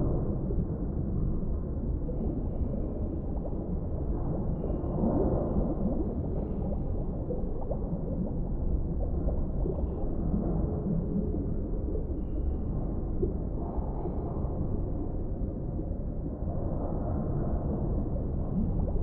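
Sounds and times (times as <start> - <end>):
deep muffled underwater wash: 0.0 - 19.0.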